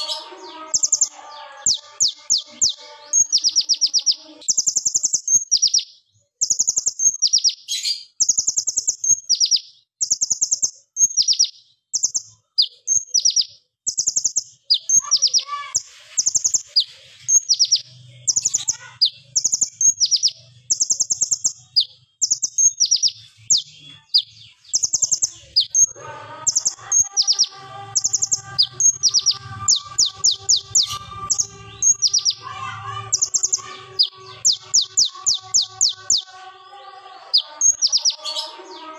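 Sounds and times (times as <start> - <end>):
bird chirping trills: 0.0 - 38.9.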